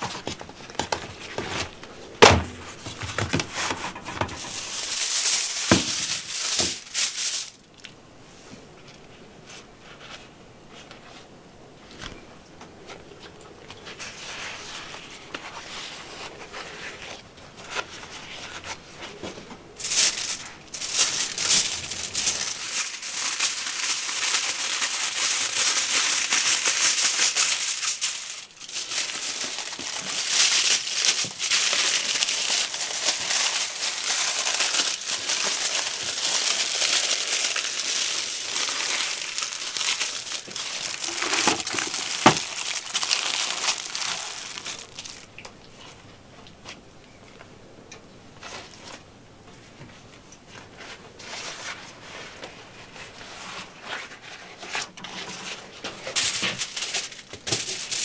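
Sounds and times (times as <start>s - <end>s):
paper rustling: 0.0s - 7.6s, 12.9s - 46.0s, 50.5s - 58.0s
aluminium foil crinkling: 0.0s - 8.0s, 13.8s - 45.9s, 50.6s - 58.0s.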